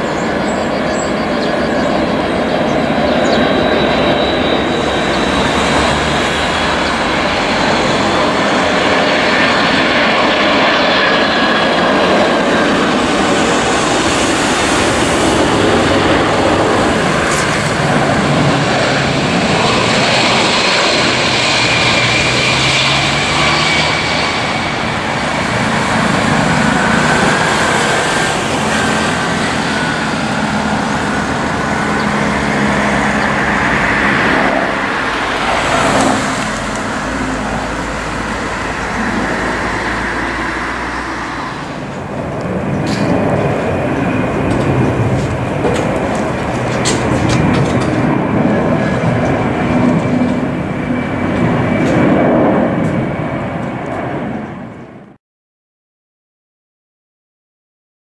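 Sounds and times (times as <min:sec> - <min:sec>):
jet engines roaring on landing: 0:00.0 - 0:55.2.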